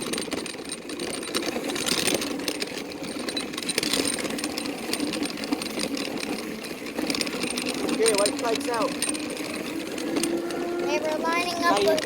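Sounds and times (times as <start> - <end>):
go-kart engine buzzing: 0.0 - 12.0.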